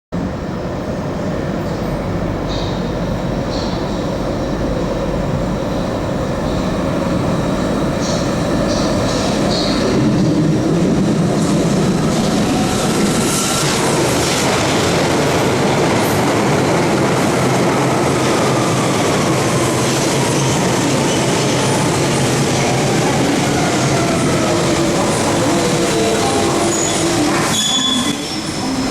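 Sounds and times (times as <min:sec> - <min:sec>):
train wheels rumbling: 0:00.2 - 0:28.9.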